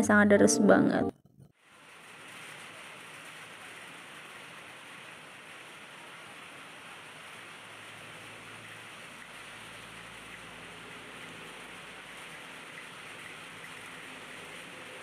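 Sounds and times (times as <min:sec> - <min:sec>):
rain falling on wet pavement: 0:01.6 - 0:15.0.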